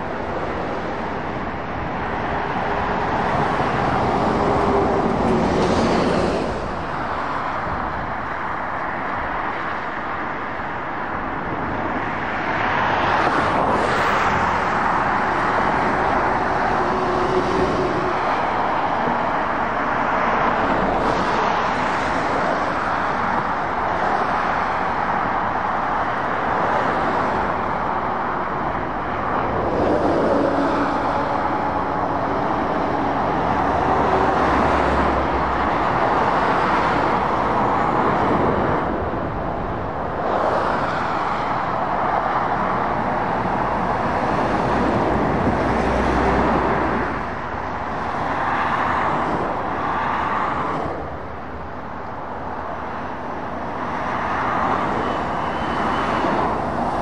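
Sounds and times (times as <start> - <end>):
traffic passing: 0.0 - 57.0.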